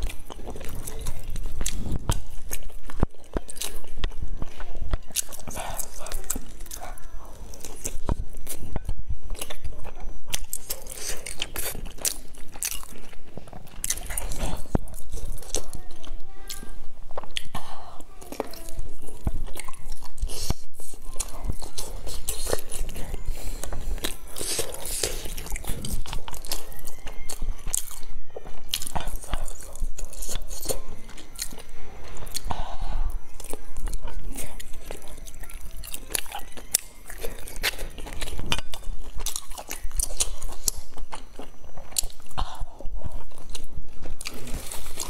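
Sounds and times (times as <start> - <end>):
person biting and chewing food: 0.0 - 45.0.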